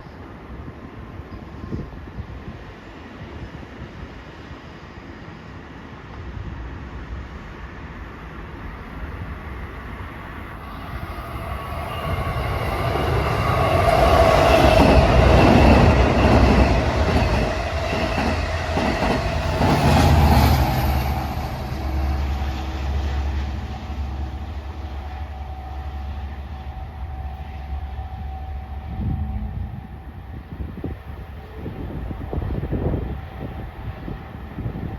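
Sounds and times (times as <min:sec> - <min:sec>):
train passing: 0:00.0 - 0:34.9.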